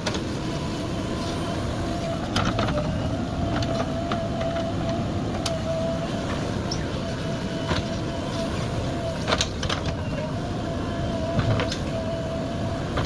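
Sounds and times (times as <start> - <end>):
diesel engine running: 0.0 - 13.0
thin steady whine: 0.0 - 13.0.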